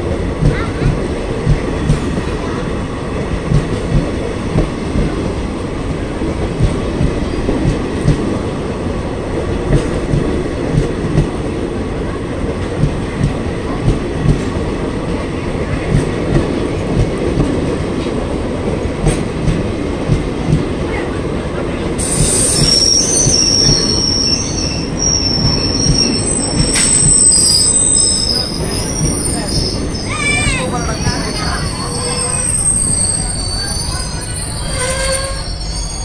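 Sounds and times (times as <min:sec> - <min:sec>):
train coaches rumbling: 0:00.0 - 0:36.0.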